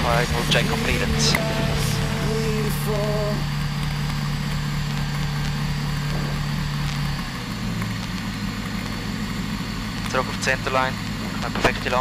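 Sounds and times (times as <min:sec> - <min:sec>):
small aircraft engine and propeller: 0:00.0 - 0:12.0.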